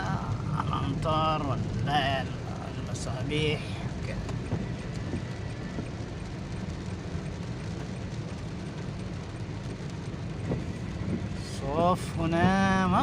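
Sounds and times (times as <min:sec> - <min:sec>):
rain hissing: 0:00.0 - 0:13.0
vehicle engine and tyres rumbling: 0:00.0 - 0:13.0.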